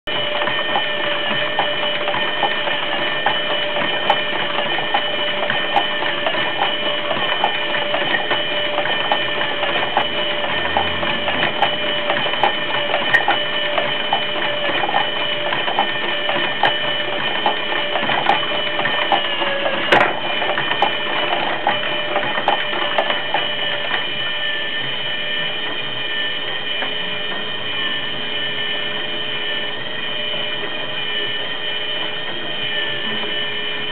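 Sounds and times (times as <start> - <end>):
motor whine: 0.1 - 33.9.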